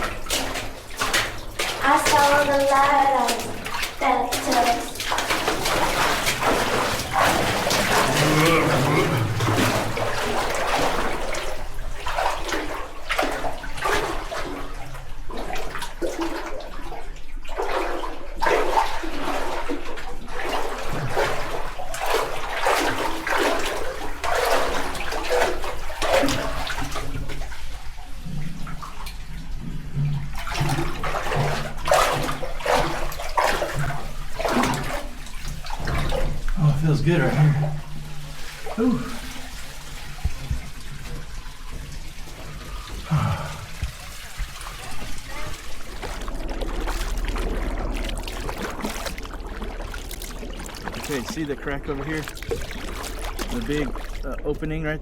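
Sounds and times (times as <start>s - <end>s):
water splashing and sloshing: 0.0s - 55.0s.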